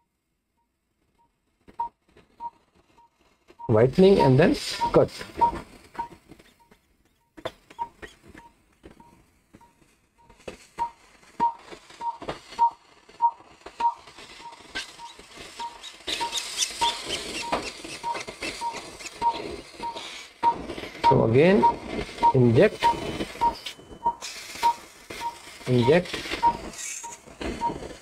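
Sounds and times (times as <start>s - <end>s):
crackling hiss: 1.6s - 28.0s
short electronic beeps: 3.6s - 27.8s.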